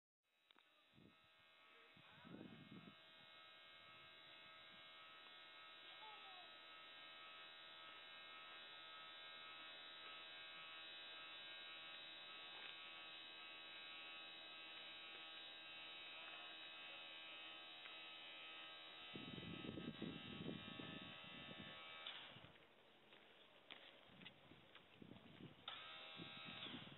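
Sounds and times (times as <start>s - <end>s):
electric motor whining: 0.4s - 22.6s, 25.0s - 26.9s.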